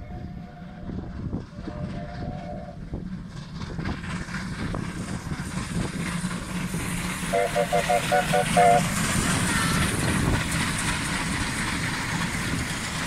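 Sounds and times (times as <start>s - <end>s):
steam locomotives rumbling: 0.0s - 13.0s.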